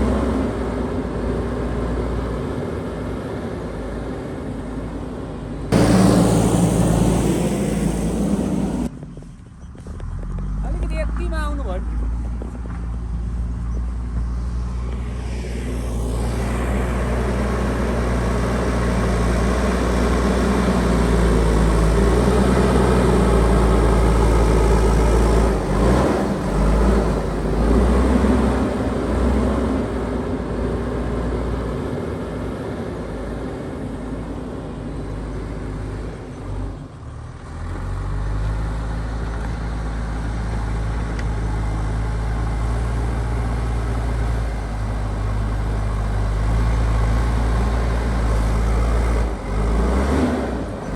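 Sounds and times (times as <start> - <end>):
diesel engine revving: 0.0 - 9.0, 10.0 - 50.9.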